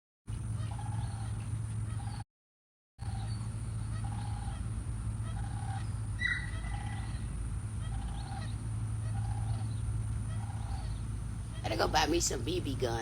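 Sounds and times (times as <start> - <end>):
bird calling: 0.3 - 2.2, 3.0 - 13.0
steady low hum: 0.3 - 2.2, 3.0 - 13.0.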